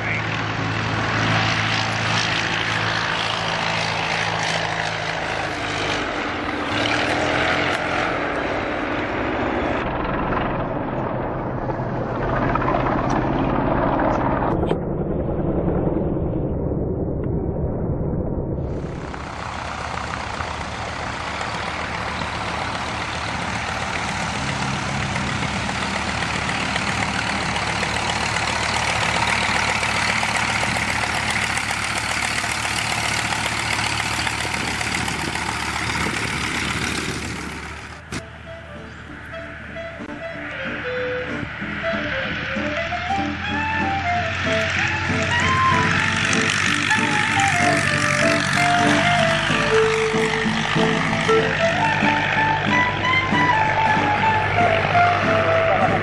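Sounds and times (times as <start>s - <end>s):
close steady engine: 0.0s - 14.8s, 18.7s - 56.0s
propeller planes droning past: 0.0s - 56.0s.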